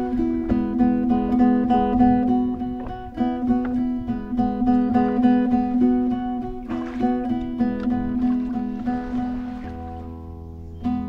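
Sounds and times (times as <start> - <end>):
acoustic guitar picked and strummed: 0.0 - 11.0.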